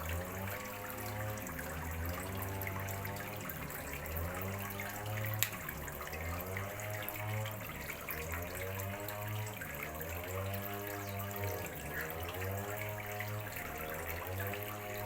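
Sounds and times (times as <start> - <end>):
water splashing into a pond: 0.0 - 15.0.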